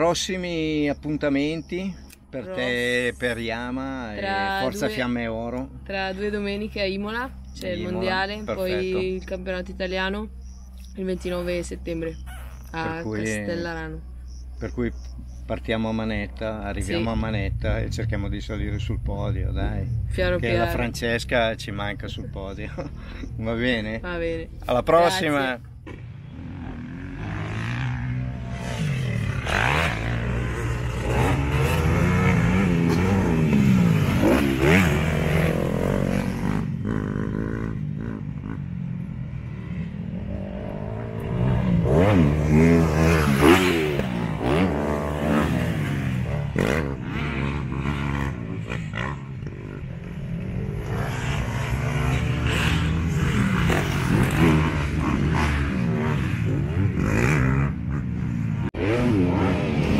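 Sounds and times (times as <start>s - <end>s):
motocross engines revving: 0.0s - 59.9s.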